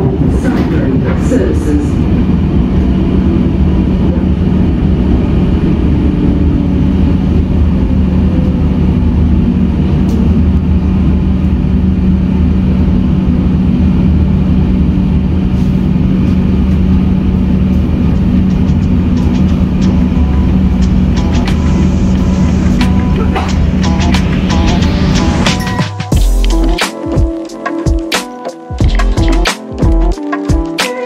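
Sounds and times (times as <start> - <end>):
train rumble inside carriage: 0.0 - 26.7
constant hum: 0.0 - 28.1.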